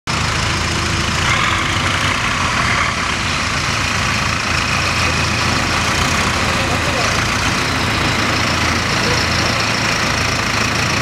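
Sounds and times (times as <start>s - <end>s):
tractor diesel engine running: 0.1s - 11.0s.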